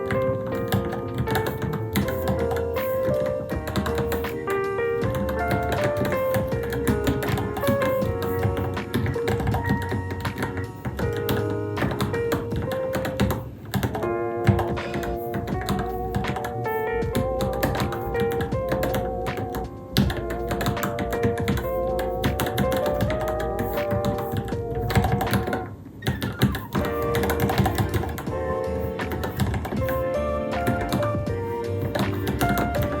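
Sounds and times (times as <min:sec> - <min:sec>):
background music with melody: 0:00.0 - 0:33.0.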